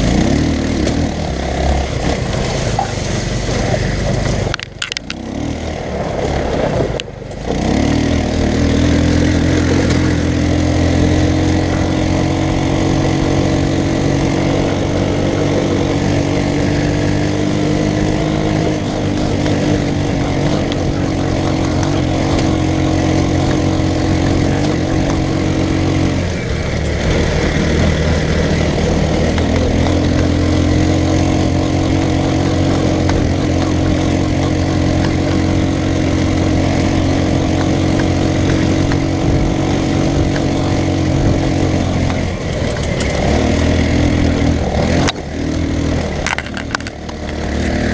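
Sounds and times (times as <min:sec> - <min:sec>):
small engine running: 0:00.0 - 0:47.9.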